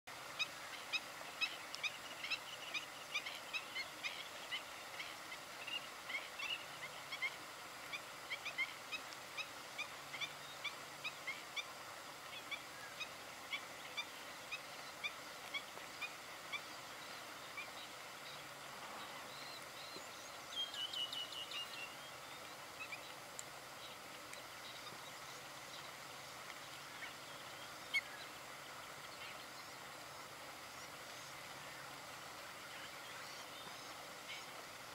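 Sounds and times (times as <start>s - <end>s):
steady background hiss: 0.1s - 34.9s.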